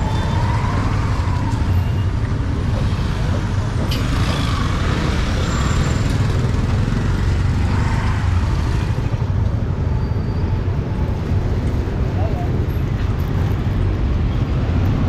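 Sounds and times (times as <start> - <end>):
motorbike and scooter engines passing: 0.0 - 15.0.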